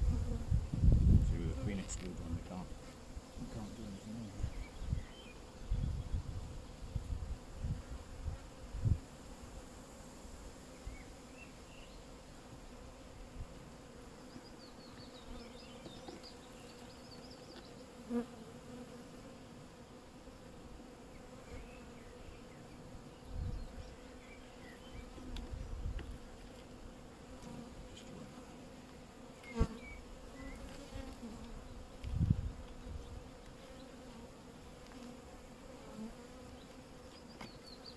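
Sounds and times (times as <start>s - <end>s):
bees buzzing: 0.0s - 37.9s.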